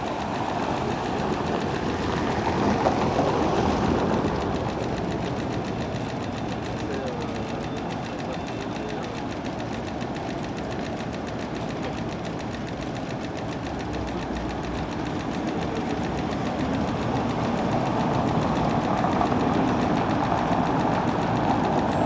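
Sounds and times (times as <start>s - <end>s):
tram rolling on rails: 0.0s - 22.0s.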